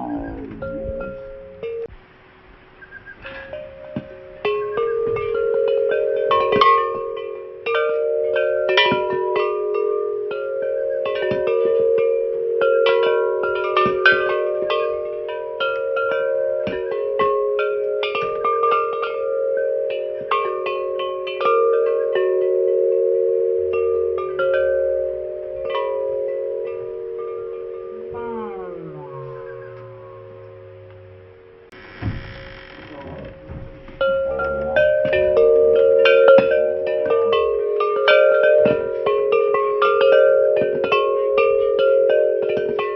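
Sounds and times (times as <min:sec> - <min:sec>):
bells ringing: 0:00.0 - 0:01.9, 0:03.2 - 0:31.8, 0:33.4 - 0:42.9.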